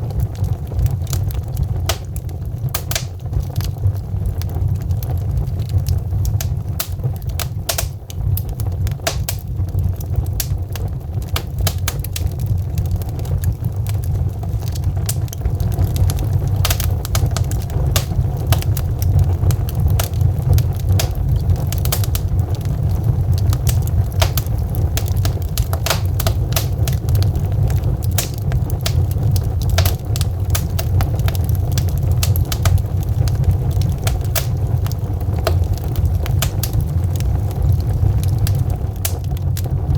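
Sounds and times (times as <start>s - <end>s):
flames rumbling: 0.0s - 39.9s
logs crackling and popping: 0.0s - 39.9s.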